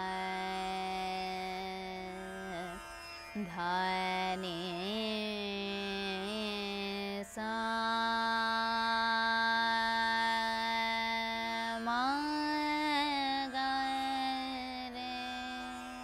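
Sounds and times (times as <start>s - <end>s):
woman singing classical vocals: 0.0s - 2.8s, 3.4s - 16.0s
tanpura drone: 0.0s - 16.0s.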